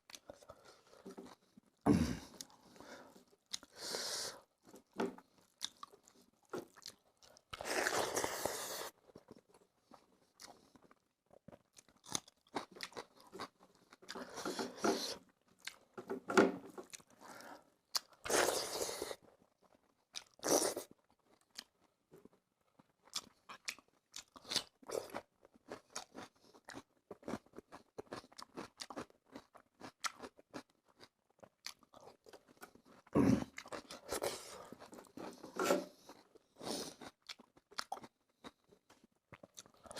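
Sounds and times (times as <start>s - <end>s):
person chewing crunchy food: 0.1s - 39.9s.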